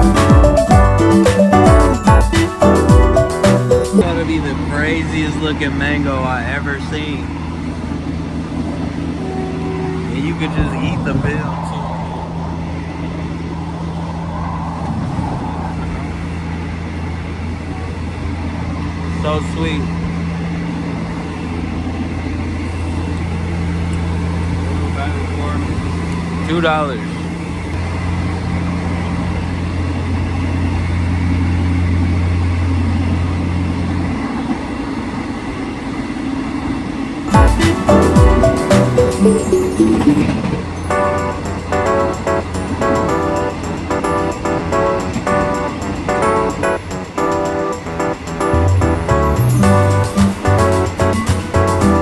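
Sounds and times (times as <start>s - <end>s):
train engine hum: 0.0s - 52.0s
train carriage rumble: 1.7s - 52.0s.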